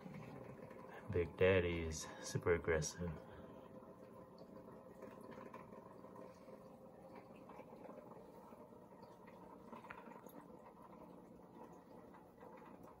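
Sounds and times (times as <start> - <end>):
aquarium water bubbling: 0.0 - 13.0.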